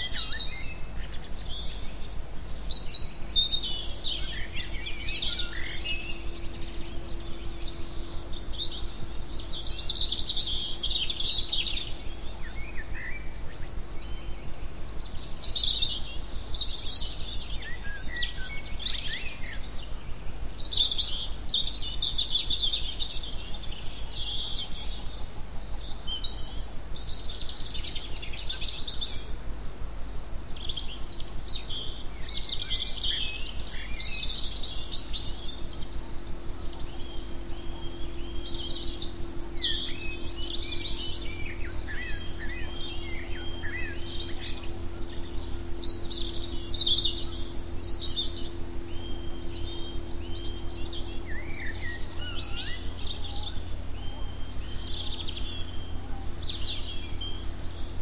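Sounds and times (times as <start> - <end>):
songbirds chirping and trilling: 0.0 - 58.0
steady low hum: 0.0 - 58.0.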